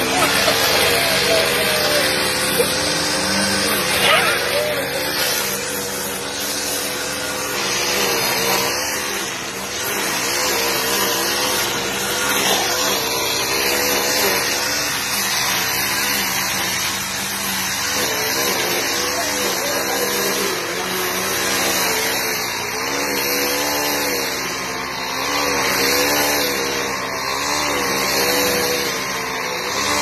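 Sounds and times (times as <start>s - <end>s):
brush cutter engine running: 0.0s - 30.0s.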